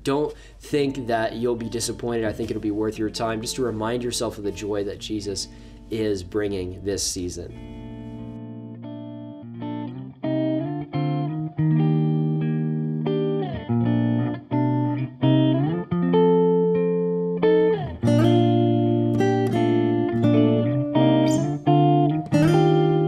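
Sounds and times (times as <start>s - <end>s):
slow plucked guitar music: 0.7s - 23.0s.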